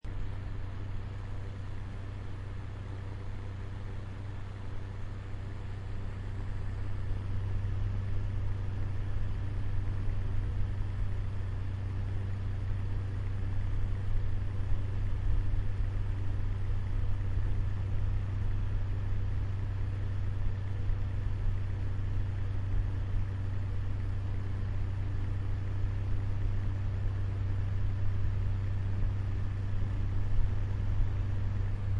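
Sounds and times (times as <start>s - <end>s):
electric fan motor hum: 0.0s - 31.9s.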